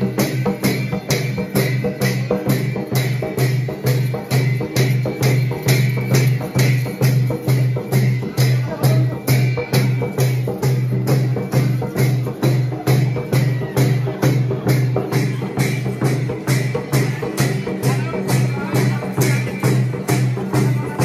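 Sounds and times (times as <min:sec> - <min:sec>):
folk dance drum beat: 0:00.0 - 0:21.0
hand cymbals clashing: 0:00.0 - 0:21.0.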